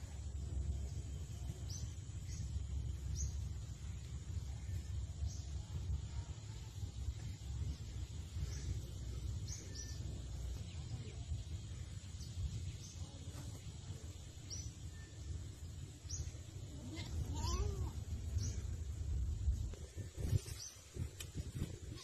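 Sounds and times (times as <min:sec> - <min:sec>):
wind rumble on microphone: 0:00.0 - 0:22.0
small bird chirping: 0:00.1 - 0:19.6.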